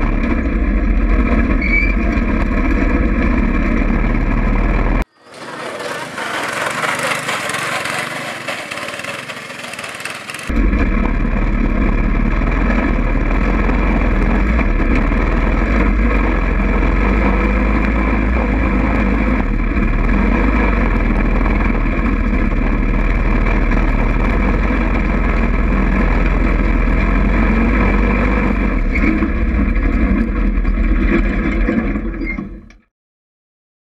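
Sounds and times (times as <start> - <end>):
go-kart engine running: 0.0 - 32.4.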